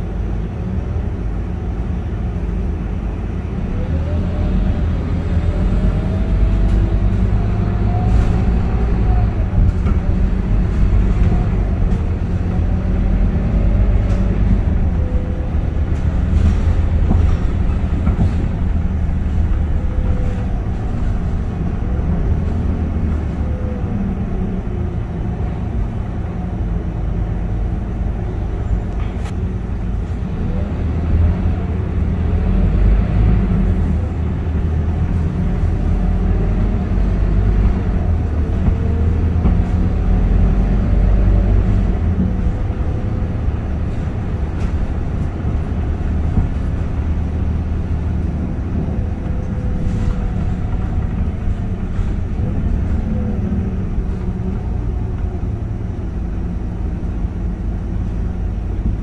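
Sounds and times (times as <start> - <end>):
bus diesel engine rumbling: 0.0 - 59.0.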